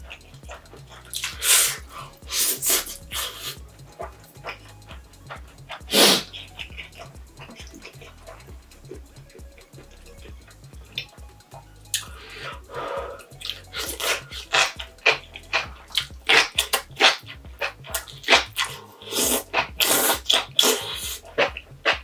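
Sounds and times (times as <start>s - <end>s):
wet slurping and chewing: 0.0s - 22.0s.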